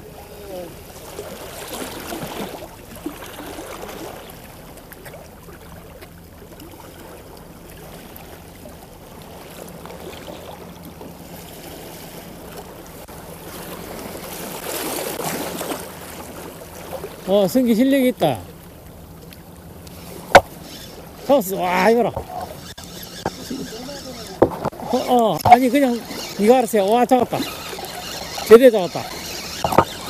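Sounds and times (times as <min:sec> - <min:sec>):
boat engine humming: 0:00.0 - 0:30.0
water washing against hull: 0:00.0 - 0:30.0
wind: 0:00.0 - 0:30.0.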